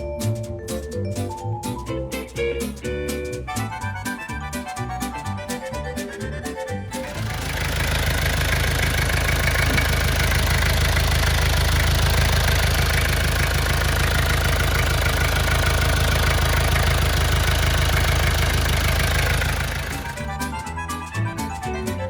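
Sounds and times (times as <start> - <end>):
diesel engine idling: 0.1 - 22.0.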